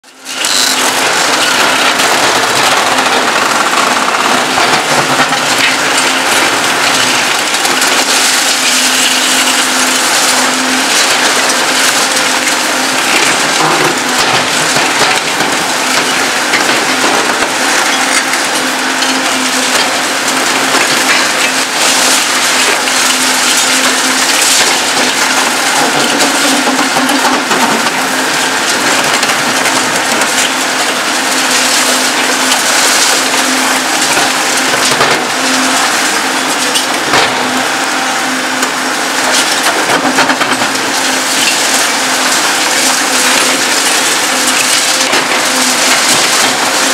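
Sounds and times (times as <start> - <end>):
concrete crunching and cracking: 0.1 - 46.9.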